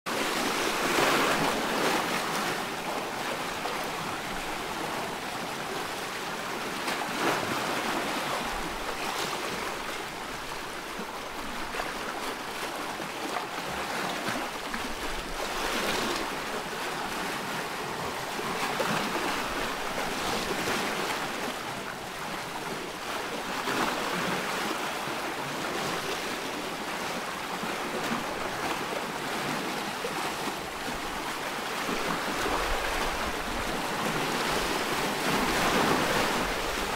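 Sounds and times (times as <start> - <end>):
sea surf washing on a beach: 0.1 - 36.9.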